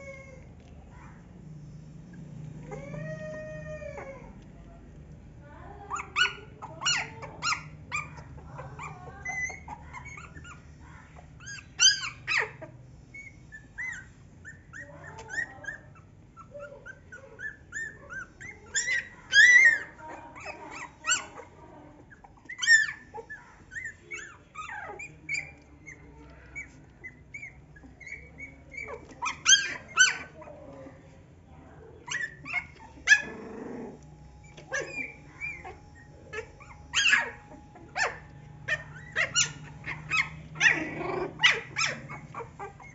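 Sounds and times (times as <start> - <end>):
puppies whimpering and squeaking: 0.0 - 31.2, 31.9 - 42.9
puppy yelps: 5.9 - 21.6, 22.2 - 30.6, 32.0 - 42.9.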